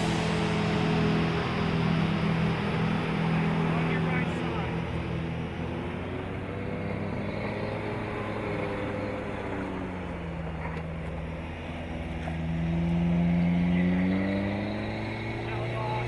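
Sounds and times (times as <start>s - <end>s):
off-road vehicle engine: 0.0s - 16.0s.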